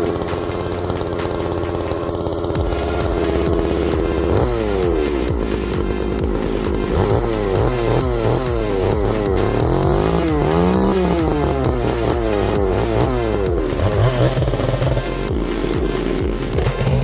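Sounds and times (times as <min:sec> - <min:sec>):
chainsaw cutting limbs: 0:00.0 - 0:17.0.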